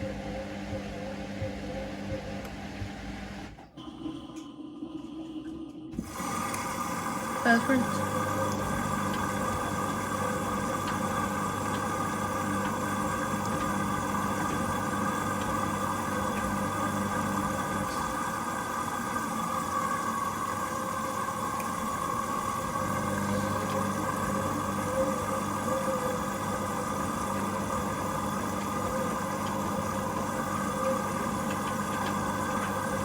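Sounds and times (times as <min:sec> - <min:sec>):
washing machine humming: 0:00.0 - 0:33.0.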